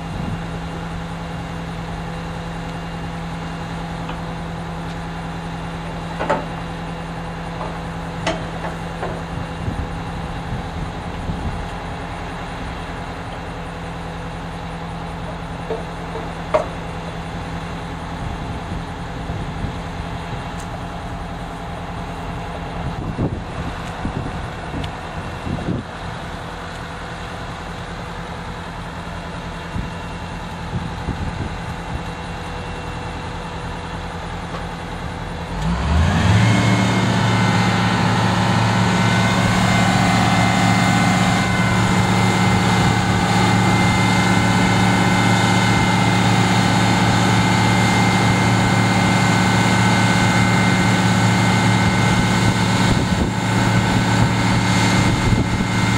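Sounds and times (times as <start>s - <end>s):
diesel engine idling: 0.0s - 55.9s
steady whine: 0.0s - 55.9s.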